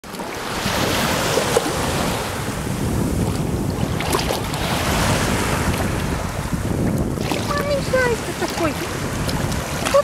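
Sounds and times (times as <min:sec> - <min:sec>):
small water splashes: 0:00.0 - 0:02.4, 0:03.3 - 0:06.2, 0:06.9 - 0:10.0
sea water lapping: 0:00.0 - 0:10.0
wind buffeting microphone: 0:00.4 - 0:10.0.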